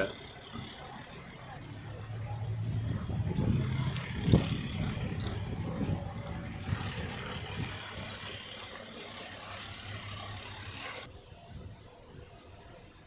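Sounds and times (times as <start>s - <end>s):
car engine running: 0.0s - 11.1s
street noise: 0.0s - 13.0s.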